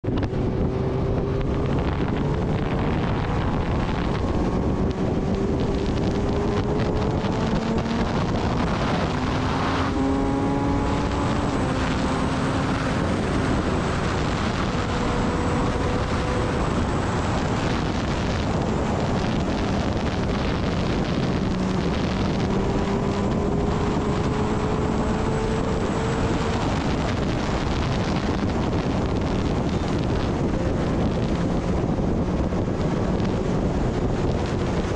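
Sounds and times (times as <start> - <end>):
wind rushing on microphone: 0.0 - 34.9.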